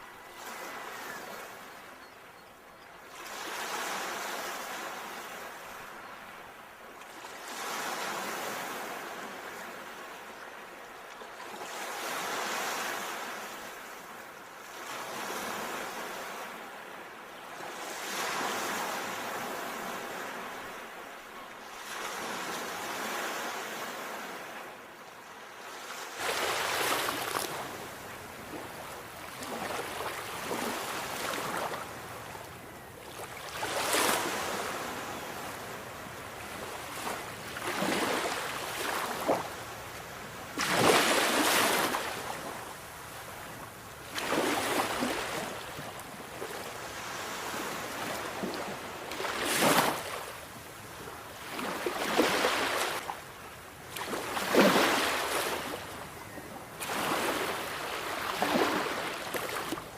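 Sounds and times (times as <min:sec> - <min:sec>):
sea waves breaking on shore: 0:11.4 - 0:59.9.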